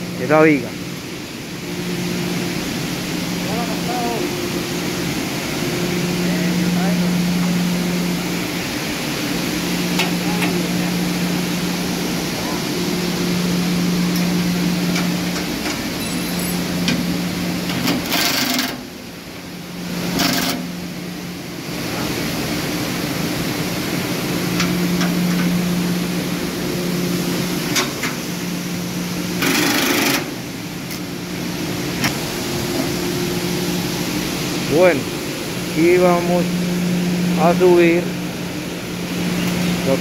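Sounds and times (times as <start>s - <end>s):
steady low hum: 0.0s - 18.0s, 18.8s - 40.0s.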